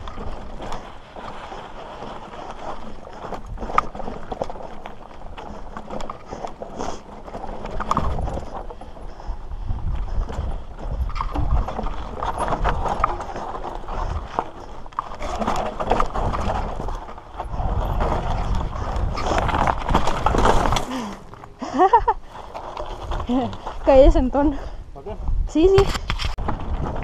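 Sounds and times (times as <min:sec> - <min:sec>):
tyres crunching on gravel: 0:00.0 - 0:24.0
bike clattering over bumps: 0:00.0 - 0:24.4.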